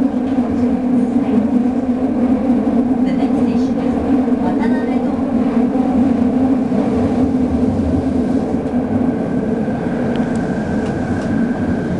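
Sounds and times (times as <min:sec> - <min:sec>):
subway train rumbling in tunnel: 0:00.0 - 0:11.9.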